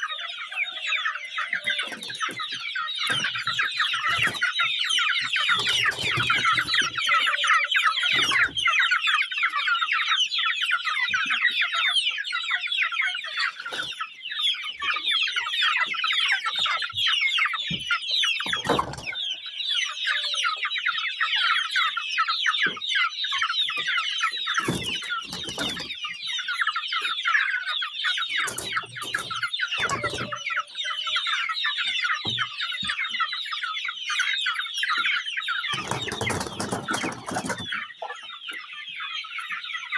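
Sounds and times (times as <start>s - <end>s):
chicks peeping and chirping: 0.0s - 39.9s.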